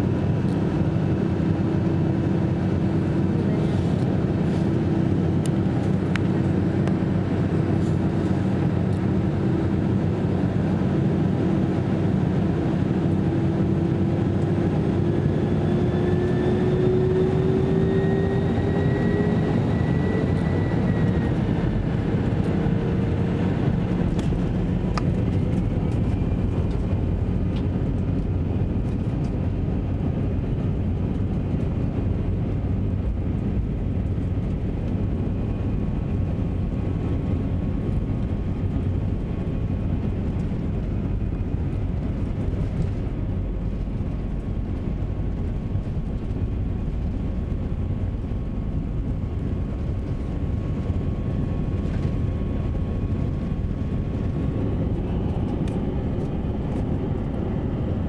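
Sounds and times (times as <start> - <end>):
rising engine whine: 0.0 - 58.0.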